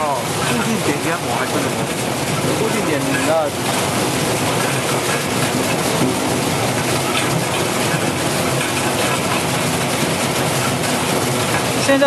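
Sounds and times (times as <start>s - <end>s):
peeling machine churning: 0.0s - 12.0s.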